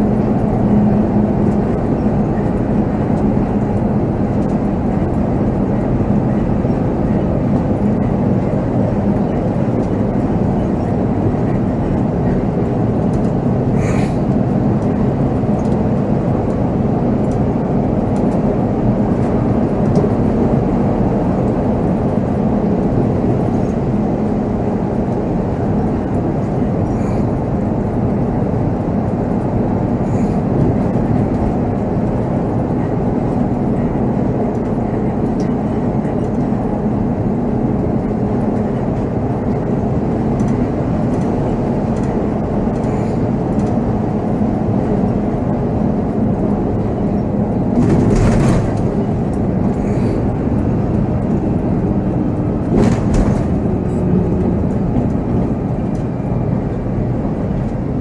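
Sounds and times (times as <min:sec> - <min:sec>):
diesel coach engine running: 0:00.0 - 0:58.0
road and cabin noise: 0:00.0 - 0:58.0.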